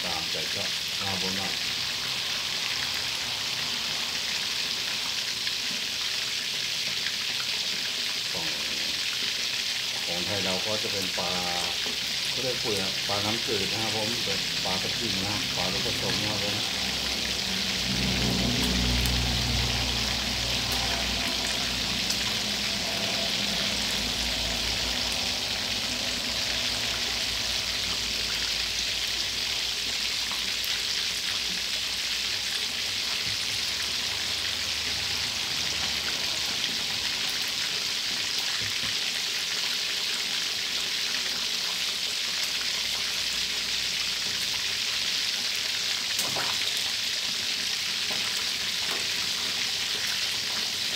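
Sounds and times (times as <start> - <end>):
fish sizzling in hot oil: 0.0 - 50.9.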